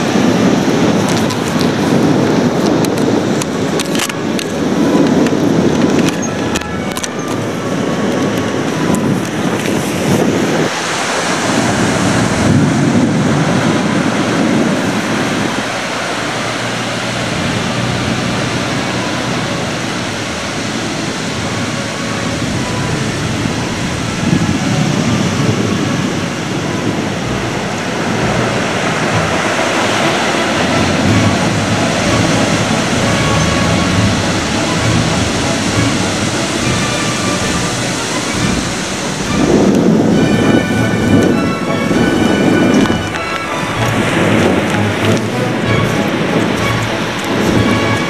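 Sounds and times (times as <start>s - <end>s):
surf washing onto beach: 0.0s - 48.0s
wind rumbling on microphone: 0.0s - 48.0s.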